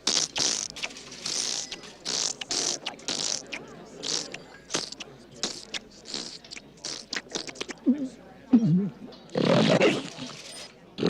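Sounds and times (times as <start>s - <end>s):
mouth sound effects of eating: 0.0s - 11.0s.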